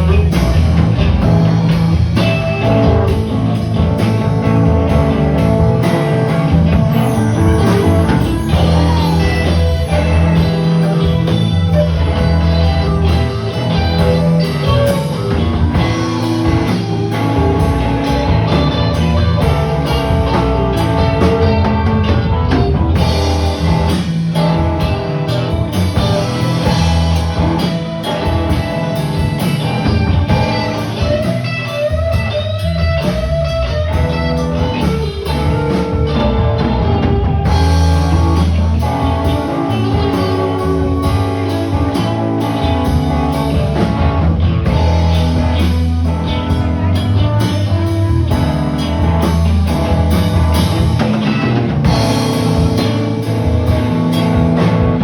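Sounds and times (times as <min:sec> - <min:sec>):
blues rock band playing: 0:00.0 - 0:55.0.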